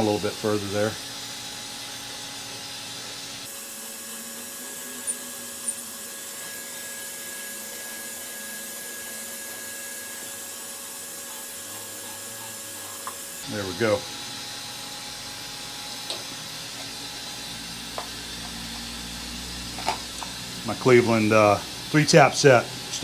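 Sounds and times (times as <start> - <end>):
shop machinery humming: 0.0 - 23.0.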